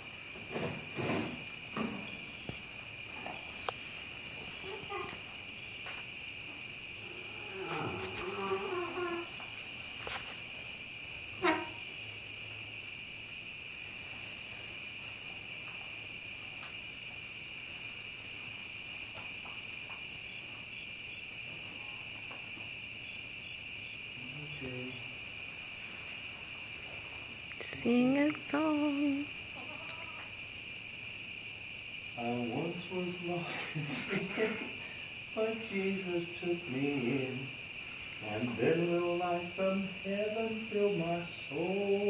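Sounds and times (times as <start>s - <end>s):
crickets trilling: 0.0s - 42.0s.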